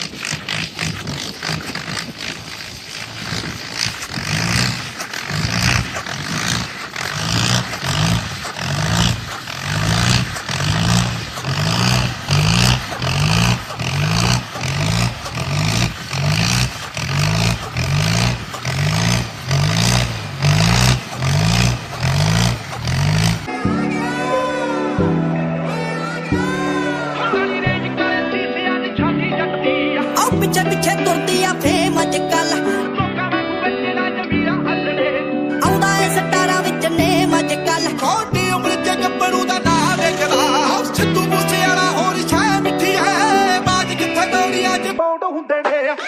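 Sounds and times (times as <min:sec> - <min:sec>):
tractor engine running: 0:00.0 - 0:28.4, 0:30.2 - 0:32.9, 0:35.6 - 0:45.0.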